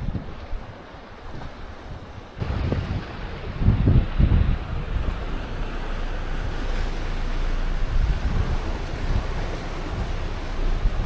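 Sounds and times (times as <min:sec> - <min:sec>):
sea washing: 0:00.0 - 0:11.0
wind buffeting microphone: 0:00.0 - 0:11.0.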